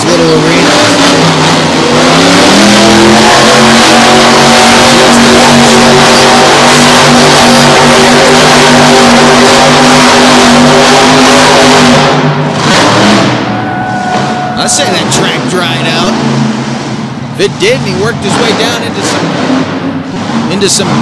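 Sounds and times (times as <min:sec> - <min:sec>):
truck engine at high revs: 0:00.0 - 0:21.0.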